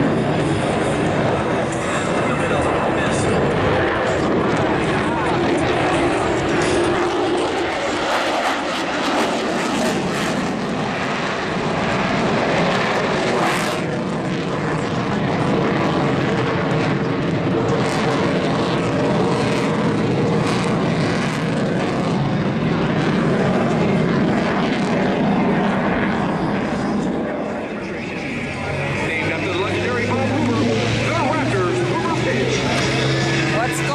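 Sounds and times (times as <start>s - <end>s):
airplane engine running: 0.0s - 33.9s.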